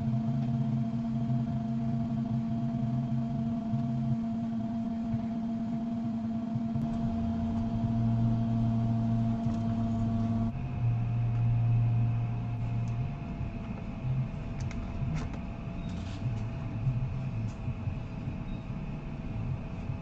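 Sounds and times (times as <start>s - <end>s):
electrical hum and fan drone: 0.0s - 20.0s.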